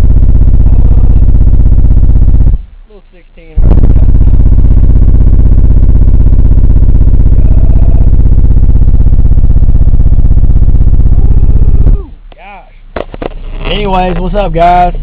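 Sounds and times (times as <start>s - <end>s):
subwoofer distorted buzz: 0.0s - 15.0s.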